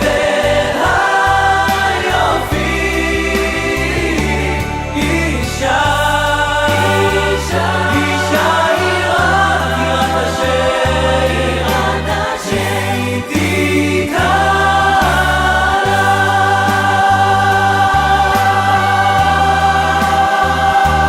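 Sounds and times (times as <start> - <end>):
choir singing worship song: 0.0 - 21.0
steady bass line: 0.0 - 21.0.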